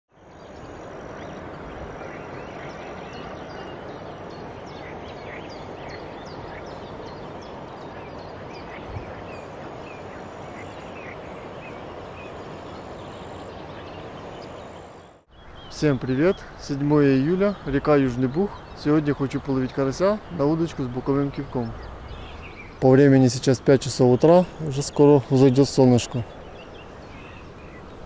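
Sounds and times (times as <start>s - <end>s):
birds chirping: 0.1s - 28.0s.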